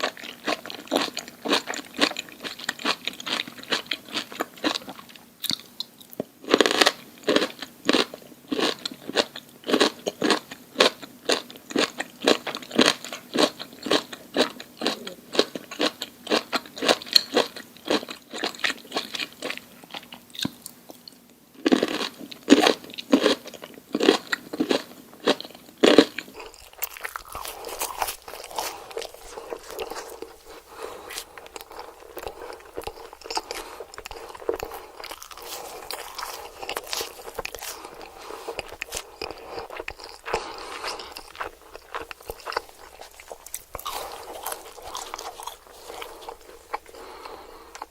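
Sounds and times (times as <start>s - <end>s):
chewing crunchy food: 0.0s - 47.9s.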